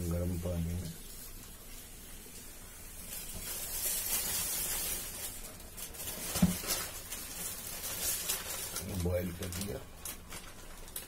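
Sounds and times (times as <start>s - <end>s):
pot of water hissing: 0.0s - 9.4s.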